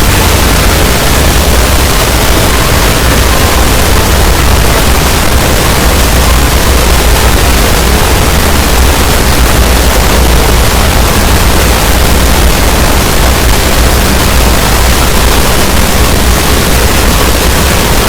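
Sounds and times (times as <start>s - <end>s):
loud static-like noise: 0.0s - 18.0s.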